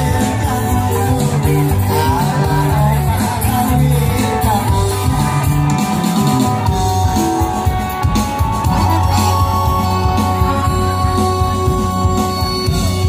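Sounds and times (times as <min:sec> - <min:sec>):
bass notes: 0:00.0 - 0:13.0
drum kit beat: 0:00.0 - 0:13.0
electric guitar: 0:00.0 - 0:13.0.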